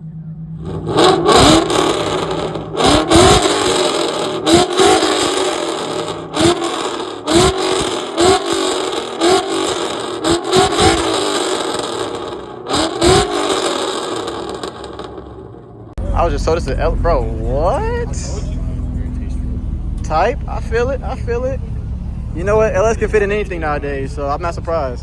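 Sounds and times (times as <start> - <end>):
car engine revving: 0.0 - 25.0
exhaust cracks: 0.5 - 25.0.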